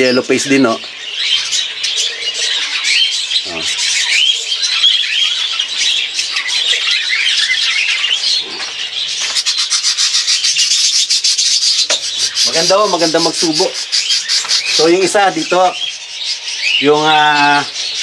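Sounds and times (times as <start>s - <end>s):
budgerigars chattering: 0.0s - 18.0s.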